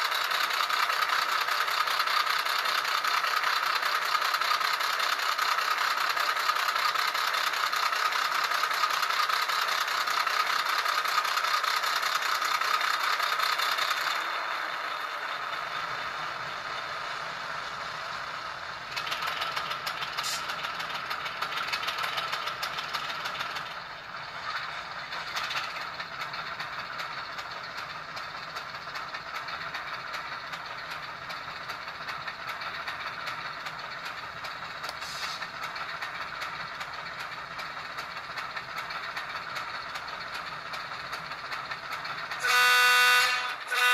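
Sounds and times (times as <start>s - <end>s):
model diesel engine sound: 0.0s - 43.9s.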